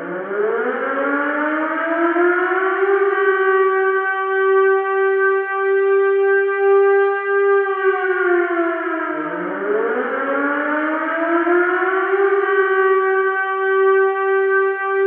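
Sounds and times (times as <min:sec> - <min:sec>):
emergency alert siren: 0:00.0 - 0:15.0.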